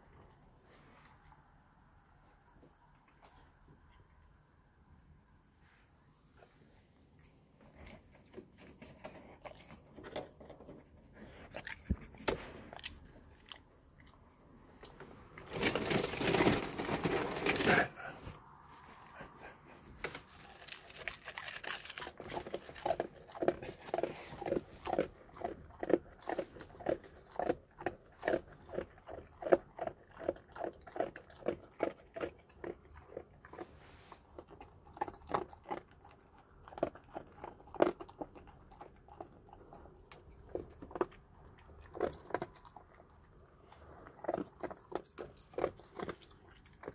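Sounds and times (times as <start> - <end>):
dog crunching dry kibble: 7.2 - 18.1, 20.0 - 46.9.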